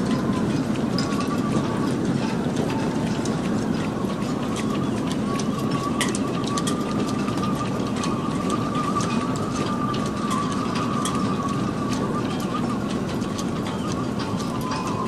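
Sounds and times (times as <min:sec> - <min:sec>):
wind whistling through rigging: 0:00.0 - 0:15.0.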